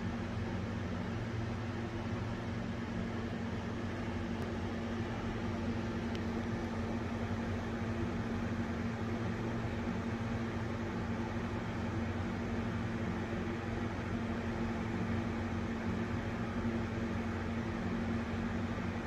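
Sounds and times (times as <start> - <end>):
exhaust fan humming: 0.0 - 19.0.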